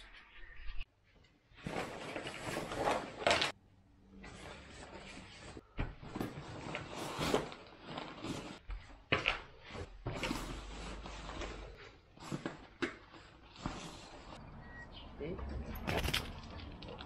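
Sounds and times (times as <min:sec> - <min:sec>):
fabric rustling and scraping: 0:00.5 - 0:14.4.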